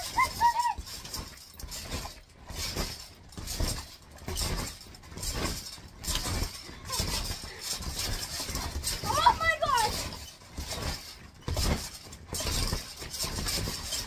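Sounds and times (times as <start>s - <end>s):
trampoline springs bouncing: 0.0s - 14.0s.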